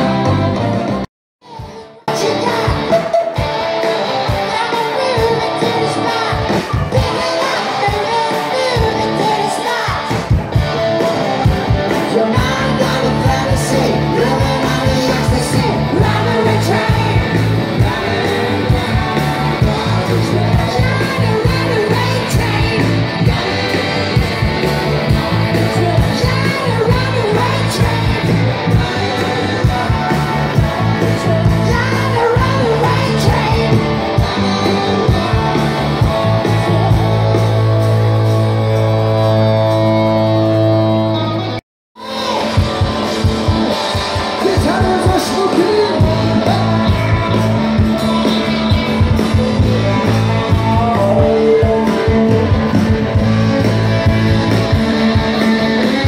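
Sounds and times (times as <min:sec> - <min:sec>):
electric guitars: 0:00.0 - 0:56.0
live rock band: 0:00.0 - 0:56.0
person singing: 0:01.4 - 0:03.4, 0:04.1 - 0:10.3, 0:11.9 - 0:37.5, 0:40.8 - 0:56.0.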